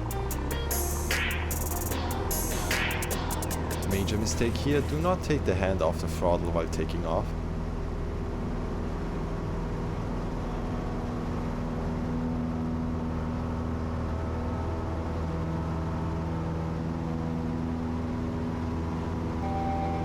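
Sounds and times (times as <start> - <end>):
piston aircraft engine droning: 0.0 - 20.0.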